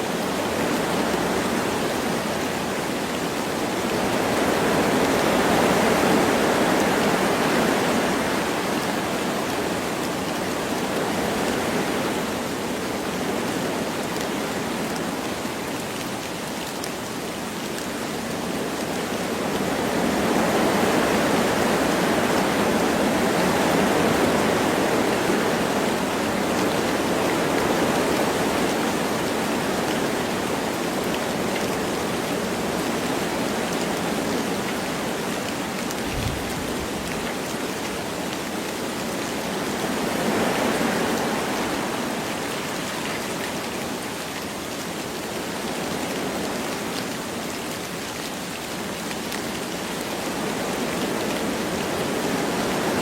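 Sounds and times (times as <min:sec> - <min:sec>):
light rain falling: 0:00.0 - 0:53.0
wind through trees: 0:00.0 - 0:53.0.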